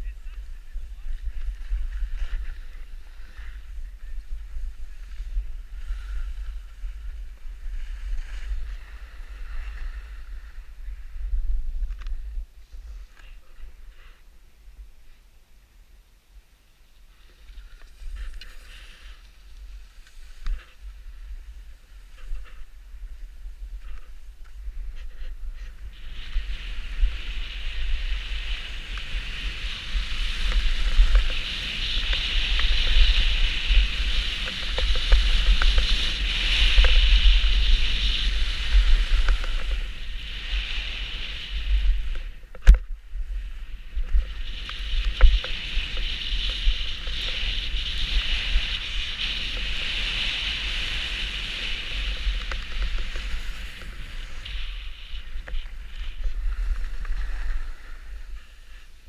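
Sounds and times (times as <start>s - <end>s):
wind buffeting microphone: 0.0s - 14.0s, 17.6s - 59.0s
sliding on packed snow hiss: 0.0s - 15.3s, 16.8s - 59.0s.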